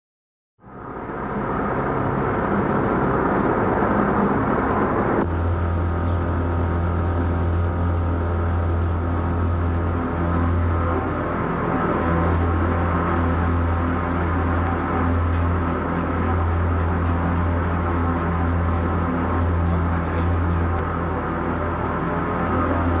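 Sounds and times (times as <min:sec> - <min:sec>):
dense rumble: 0:00.6 - 0:23.0
steady low hum: 0:00.6 - 0:23.0.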